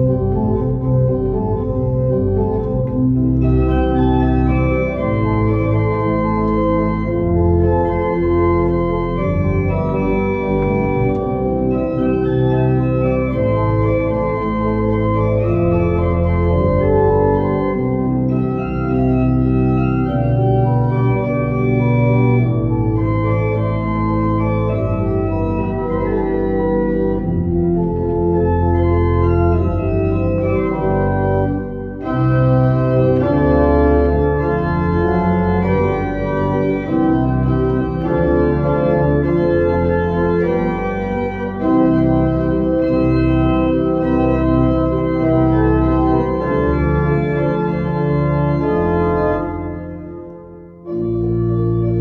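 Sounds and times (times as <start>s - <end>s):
church organ playing pop medley: 0.0s - 52.0s.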